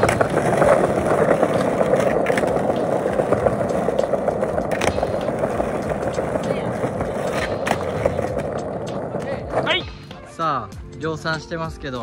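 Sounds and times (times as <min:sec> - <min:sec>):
skateboard clacks: 0:00.0 - 0:09.8
skateboard wheels rolling on stone: 0:00.0 - 0:09.9.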